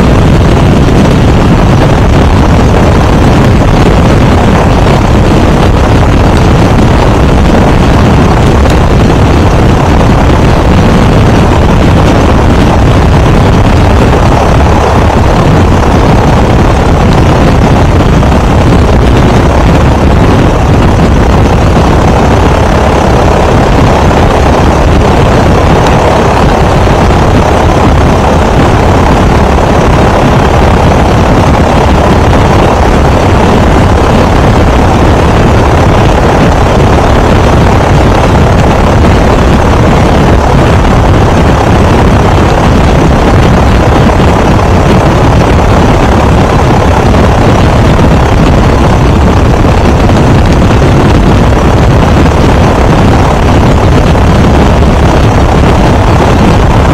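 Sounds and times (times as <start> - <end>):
propeller plane engine running: 0.0 - 56.9.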